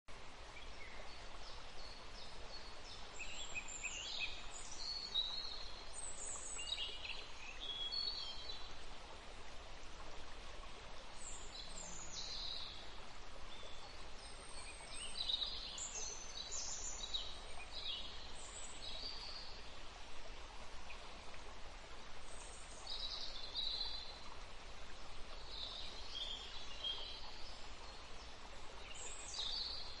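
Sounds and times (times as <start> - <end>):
background hiss: 0.1 - 30.0.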